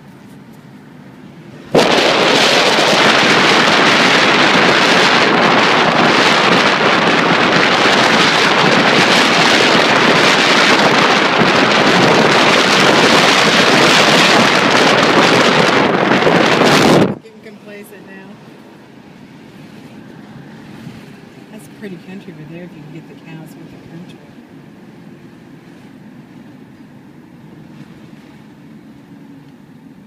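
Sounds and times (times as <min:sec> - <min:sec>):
wind buffeting microphone: 0:01.4 - 0:30.0.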